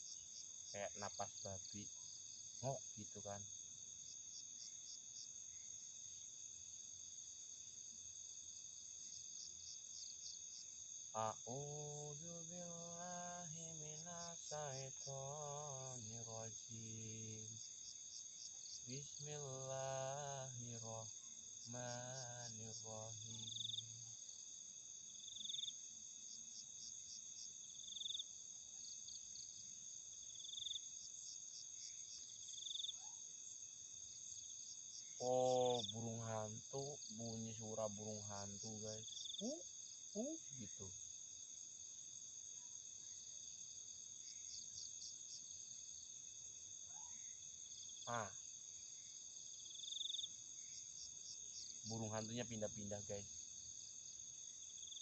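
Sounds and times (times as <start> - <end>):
crickets trilling: 0.0 - 55.0
quick cricket chirps: 0.0 - 55.0.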